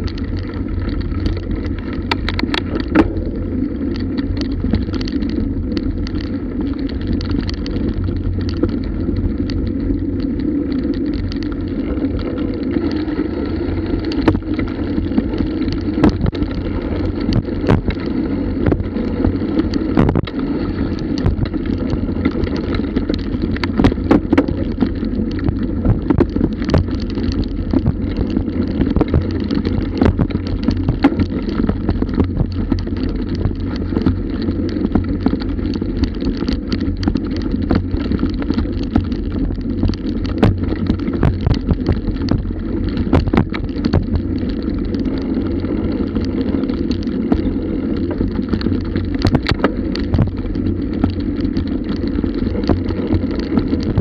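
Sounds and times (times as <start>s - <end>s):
bike rattling over bumps: 0.0s - 54.0s
bike tyres rumbling on dirt: 0.0s - 54.0s
wind on microphone: 0.0s - 54.0s.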